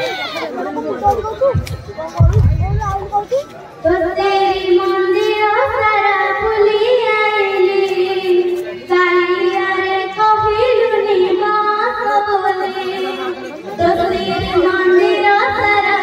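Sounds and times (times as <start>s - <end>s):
girl singing into a microphone: 1.1s - 16.0s.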